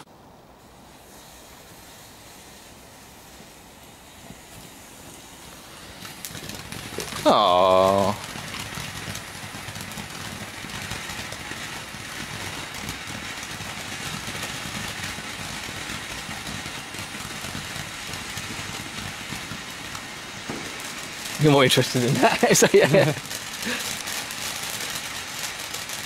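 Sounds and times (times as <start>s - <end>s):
firework fountain hissing: 0.0s - 26.0s
faint crackles: 0.6s - 26.0s.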